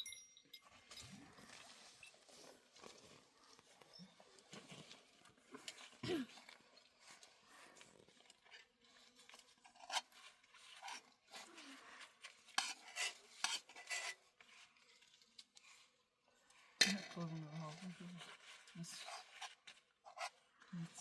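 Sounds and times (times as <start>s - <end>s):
objects scraping and clinking: 0.0s - 21.0s.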